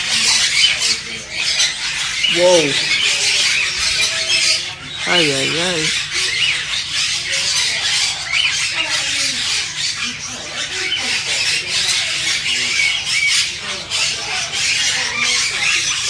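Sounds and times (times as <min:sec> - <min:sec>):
parrots chattering and squawking: 0:00.0 - 0:16.0.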